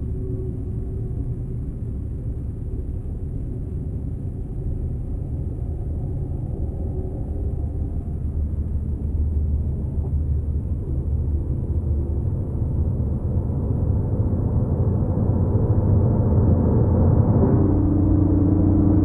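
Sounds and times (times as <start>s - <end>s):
dark ambient drone: 0.0s - 19.0s.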